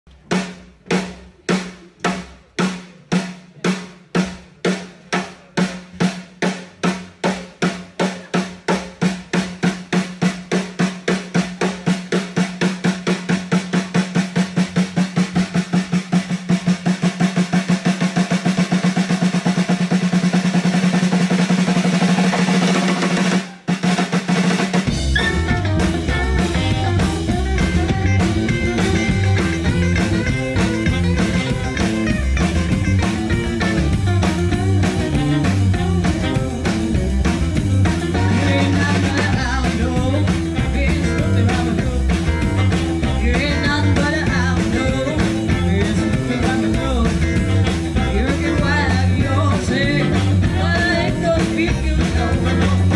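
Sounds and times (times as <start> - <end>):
rock band playing: 0.1 - 52.9
snare drum roll: 0.2 - 52.9.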